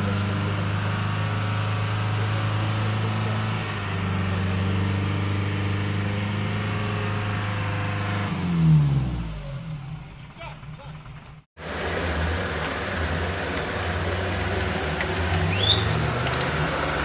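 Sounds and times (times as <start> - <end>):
engine revving high: 0.0 - 10.1, 11.6 - 17.0.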